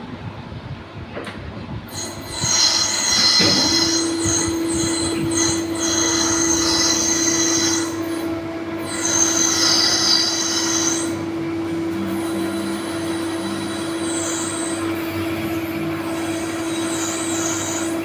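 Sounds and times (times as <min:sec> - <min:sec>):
cutting tool squealing: 0:01.9 - 0:11.2, 0:11.9 - 0:18.0
metal lathe humming: 0:01.9 - 0:18.0.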